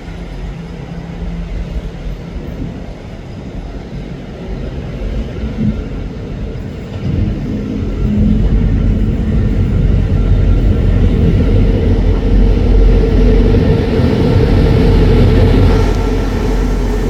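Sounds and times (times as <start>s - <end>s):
diesel train engine rumble: 0.0s - 17.0s.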